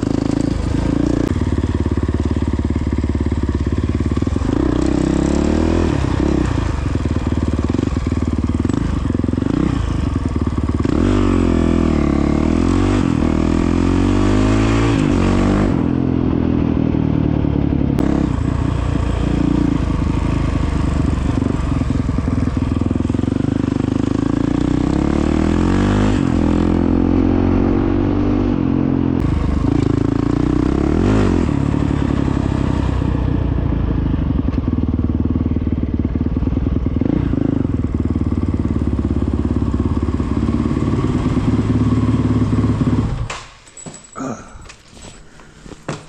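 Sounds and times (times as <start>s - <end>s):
dirt bike engine running: 0.0s - 43.3s.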